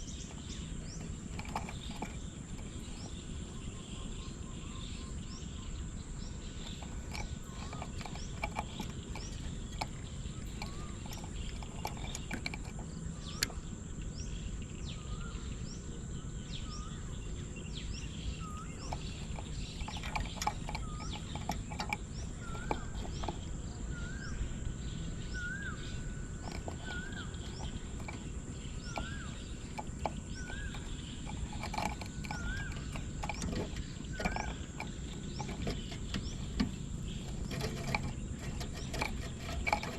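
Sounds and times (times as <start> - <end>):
birds calling: 0.0 - 39.9
insects buzzing: 0.0 - 39.9.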